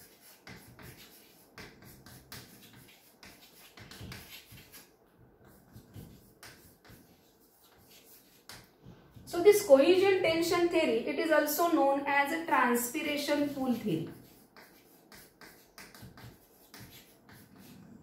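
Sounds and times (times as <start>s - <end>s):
chalk on blackboard: 0.0s - 10.7s, 12.9s - 17.8s.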